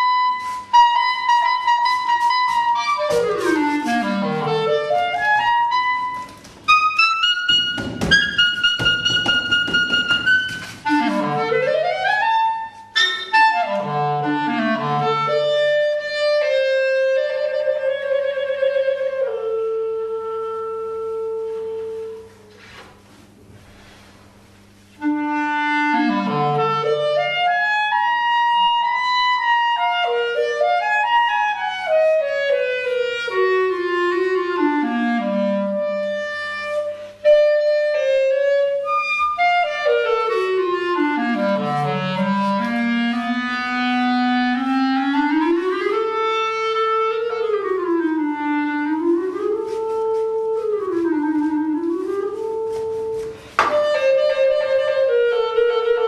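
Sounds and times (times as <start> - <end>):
solo clarinet improvising: 0.0 - 22.8, 24.6 - 56.0.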